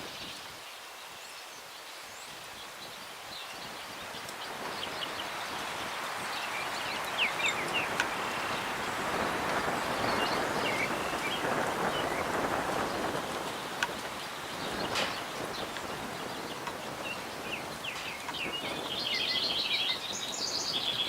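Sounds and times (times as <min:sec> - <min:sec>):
breeze rushing through trees: 0:00.0 - 0:21.0
small birds chirping: 0:00.0 - 0:21.0.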